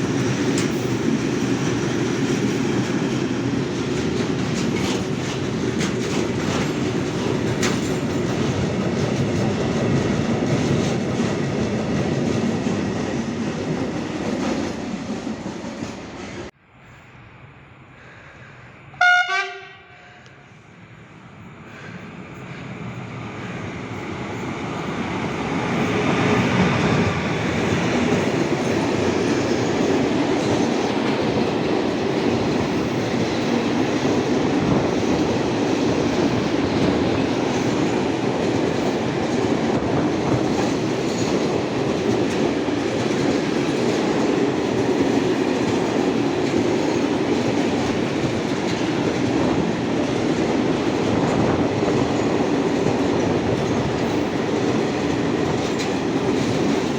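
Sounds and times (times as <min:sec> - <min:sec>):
train wheels clattering on rails: 0:00.0 - 0:16.5, 0:21.7 - 0:56.9.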